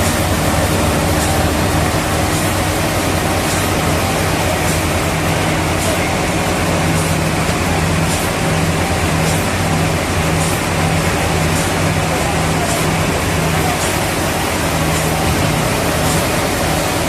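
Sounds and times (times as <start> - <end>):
sawmill machinery rumbling: 0.0 - 17.0.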